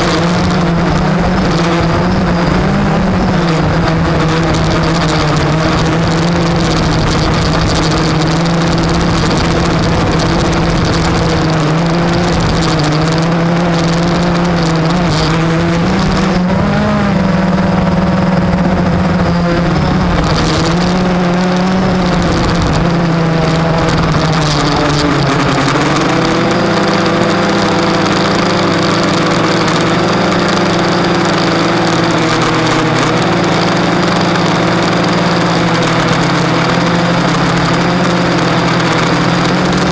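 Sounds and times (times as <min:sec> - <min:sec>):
quadcopter motors droning whine: 0:00.0 - 0:39.9
rushing noise: 0:00.0 - 0:39.9.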